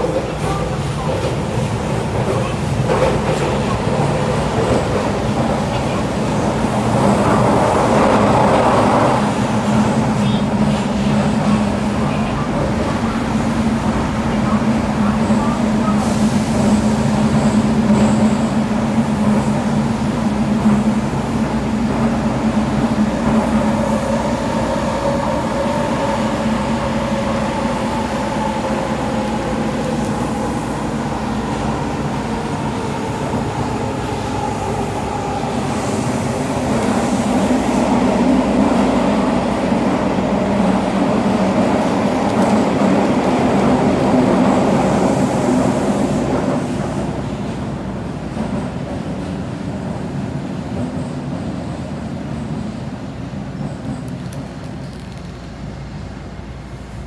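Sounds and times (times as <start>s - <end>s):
subway car rumble with humming tones: 0.0s - 57.0s.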